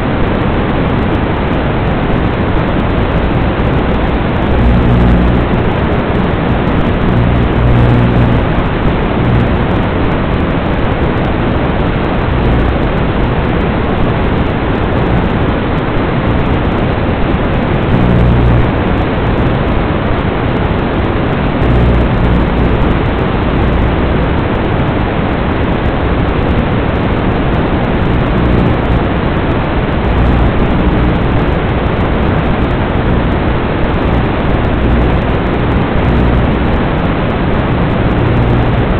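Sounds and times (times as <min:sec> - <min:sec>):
loud steady hiss: 0:00.0 - 0:38.9
low hum: 0:00.0 - 0:38.9.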